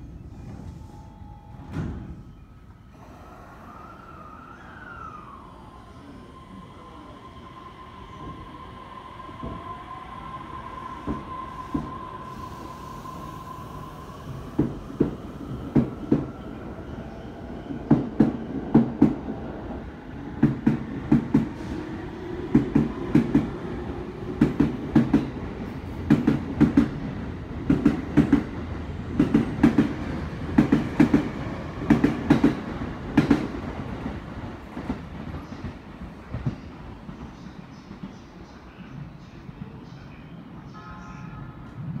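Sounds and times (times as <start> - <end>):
train rumble: 0.0 - 40.6.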